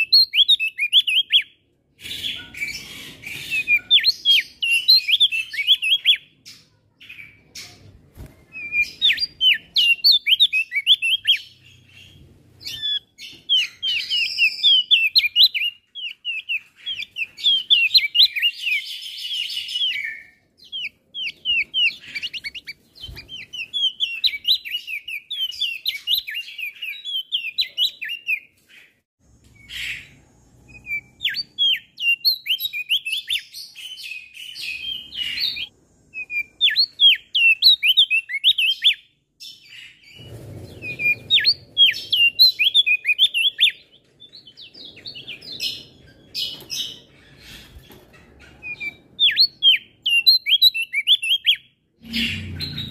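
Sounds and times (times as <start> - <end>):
bird twittering song: 0.0 - 52.9.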